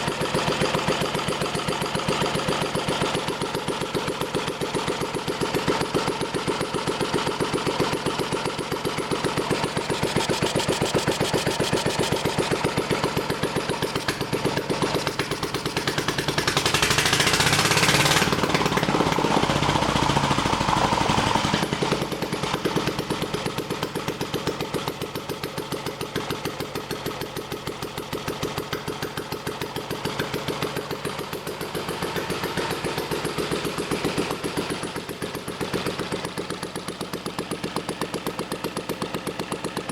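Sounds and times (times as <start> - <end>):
small stationary engine running: 0.0 - 39.9.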